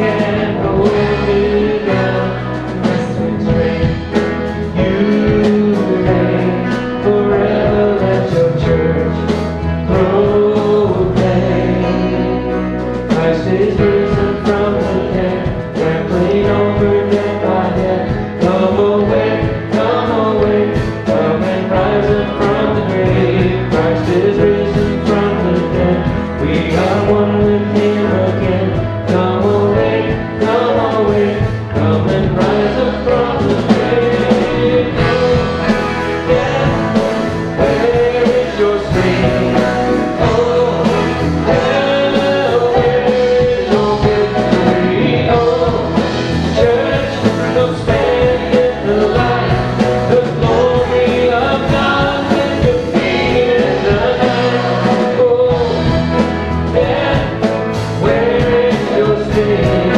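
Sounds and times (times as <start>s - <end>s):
bass guitar: 0.0s - 59.9s
drum kit beat: 0.0s - 59.9s
man singing lead: 0.0s - 59.9s
strummed guitar: 0.0s - 59.9s.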